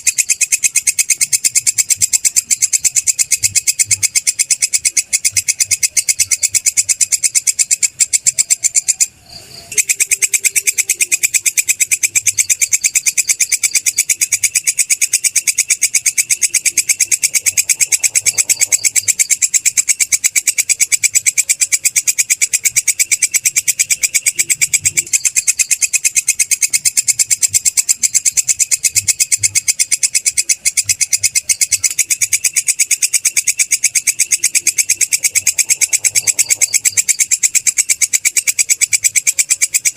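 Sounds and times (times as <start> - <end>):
grasshopper ticking trill: 0.0 - 39.9.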